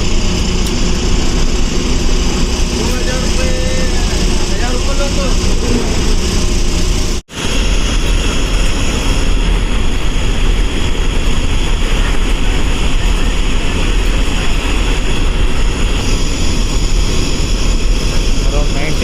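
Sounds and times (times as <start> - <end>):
bus diesel engine rumble: 0.0 - 19.0
road and wind noise: 0.0 - 19.0.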